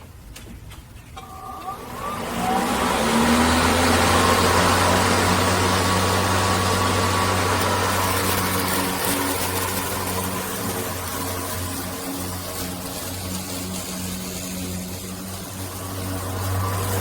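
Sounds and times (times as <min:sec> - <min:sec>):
electric yard tool running: 0:01.2 - 0:17.0
rushing air over motor hum: 0:01.4 - 0:17.0.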